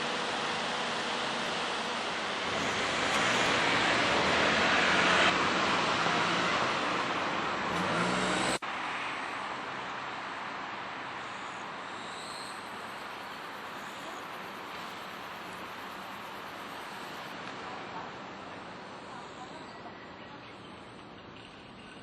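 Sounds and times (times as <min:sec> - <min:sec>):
background traffic hum: 0:00.0 - 0:22.0.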